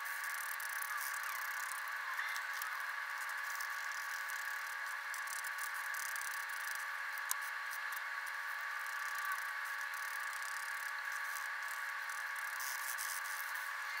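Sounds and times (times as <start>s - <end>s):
high machine whir: 0.0s - 14.0s.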